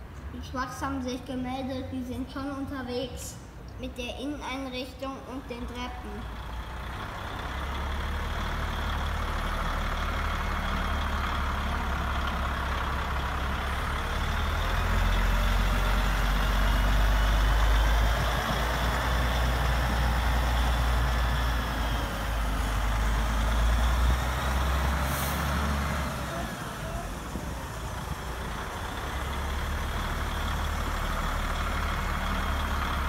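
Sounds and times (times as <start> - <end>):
model truck engine drone: 6.2 - 33.0.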